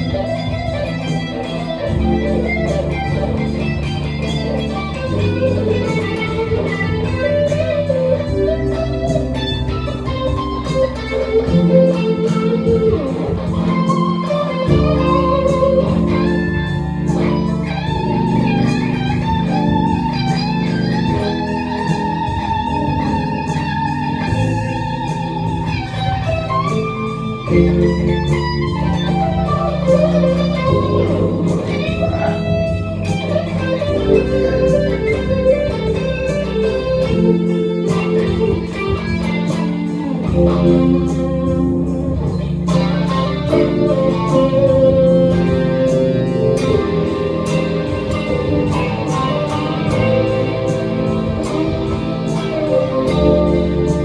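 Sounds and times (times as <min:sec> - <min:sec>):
electric guitar lead lines: 0:00.0 - 0:54.0
low accompaniment: 0:00.0 - 0:54.0.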